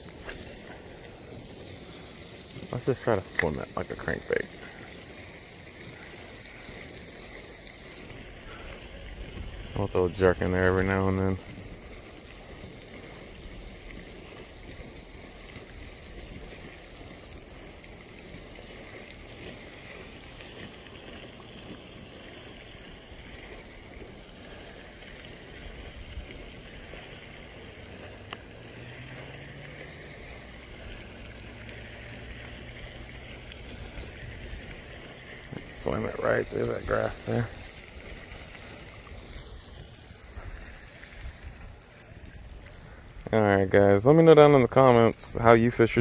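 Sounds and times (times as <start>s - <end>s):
wind and water hiss: 0.0s - 46.0s.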